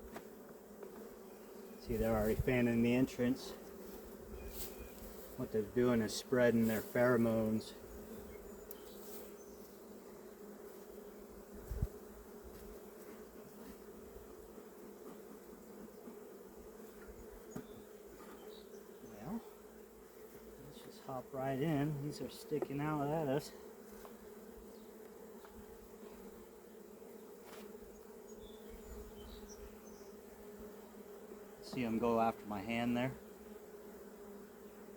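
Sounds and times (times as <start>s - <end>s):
bees buzzing: 0.0s - 34.9s.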